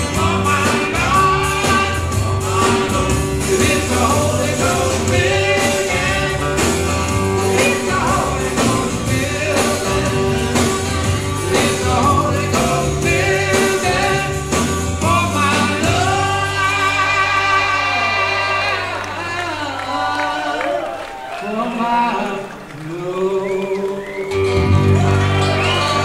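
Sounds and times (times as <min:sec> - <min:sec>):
live rock band music: 0:00.0 - 0:19.7, 0:23.9 - 0:26.0
lead vocal singing: 0:00.0 - 0:26.0.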